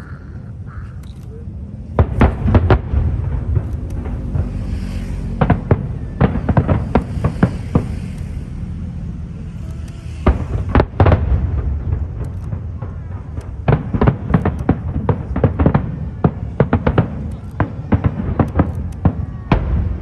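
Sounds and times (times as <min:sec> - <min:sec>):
steady low rumble: 0:00.0 - 0:20.0
fireworks bursting with sharp bangs: 0:01.4 - 0:20.0.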